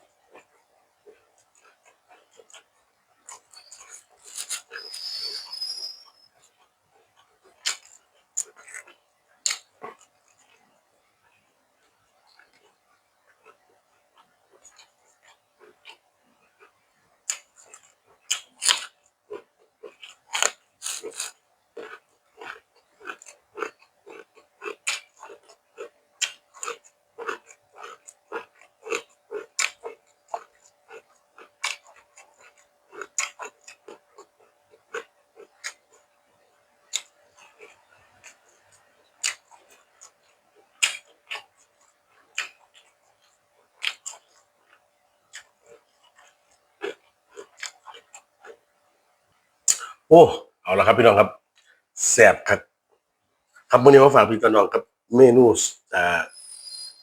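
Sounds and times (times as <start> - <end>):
person chewing and crunching food: 0.1 - 5.5, 6.4 - 10.9, 11.5 - 48.7, 49.7 - 50.1.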